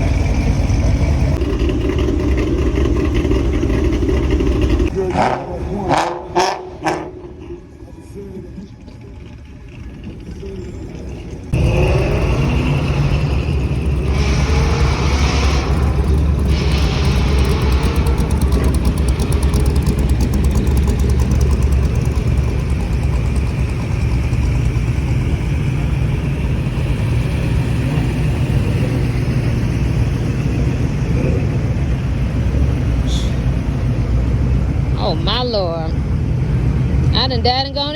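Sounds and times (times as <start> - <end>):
car engine rumbling: 0.0 - 37.9.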